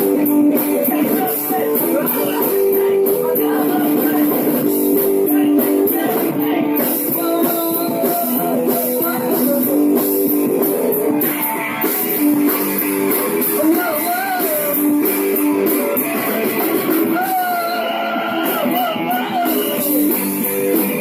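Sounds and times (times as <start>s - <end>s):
guitar rock music: 0.0s - 21.0s.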